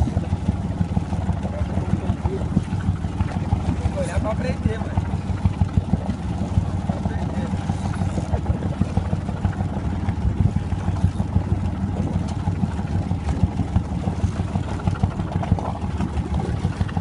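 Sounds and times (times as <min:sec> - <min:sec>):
boat engine rumbling: 0:00.0 - 0:17.0.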